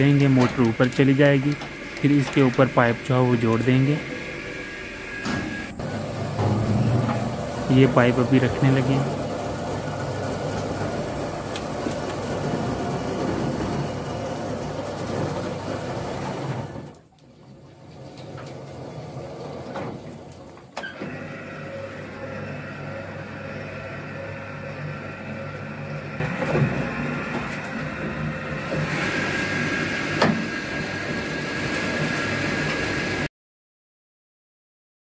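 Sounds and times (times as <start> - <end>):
drilling rig machinery humming: 0.0 - 17.0, 18.2 - 33.3.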